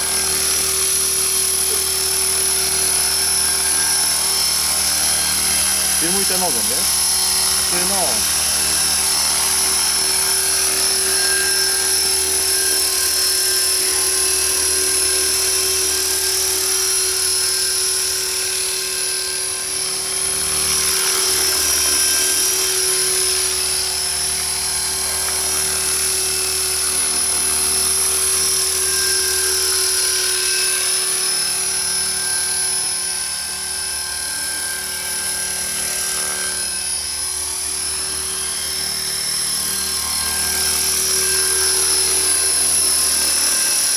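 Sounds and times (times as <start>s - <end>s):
model helicopter whine: 0.0s - 43.9s.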